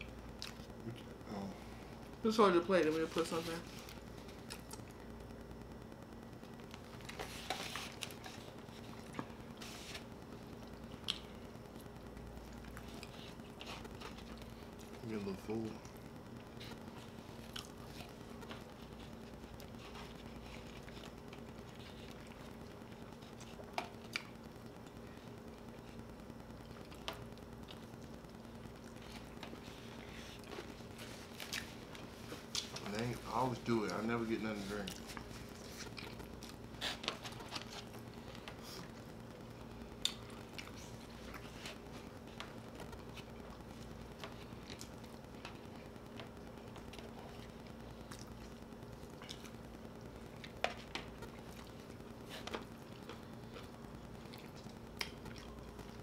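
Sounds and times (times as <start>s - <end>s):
faint hum: 0.0s - 56.0s
chewing noises: 3.8s - 5.3s, 10.4s - 15.1s, 15.7s - 56.0s.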